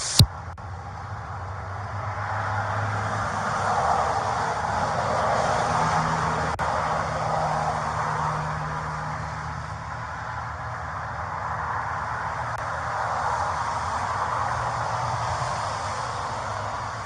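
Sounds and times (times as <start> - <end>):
car driving road noise: 0.0 - 17.0.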